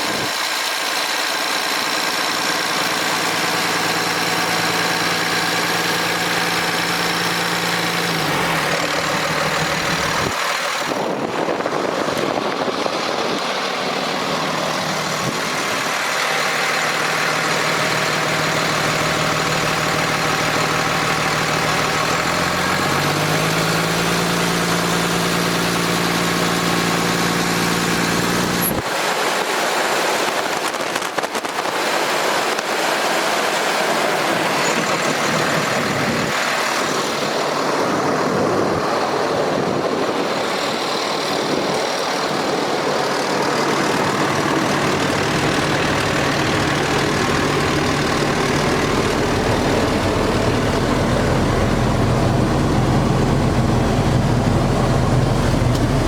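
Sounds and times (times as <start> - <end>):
diesel truck engine idling: 0.0 - 29.1, 31.4 - 56.0.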